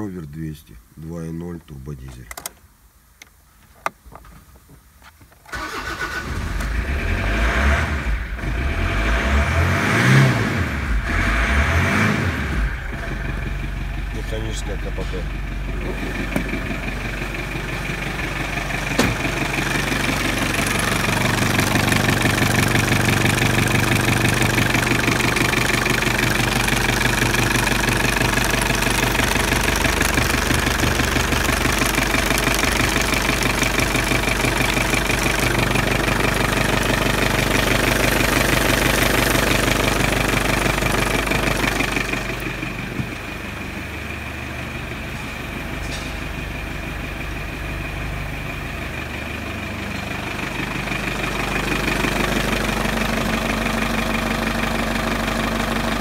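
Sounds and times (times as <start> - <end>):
diesel engine idling: 5.5 - 6.9, 12.5 - 56.0.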